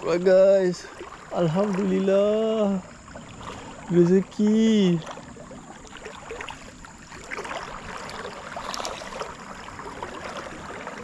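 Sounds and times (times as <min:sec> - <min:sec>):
stream water gurgling and splashing: 0:00.0 - 0:11.0.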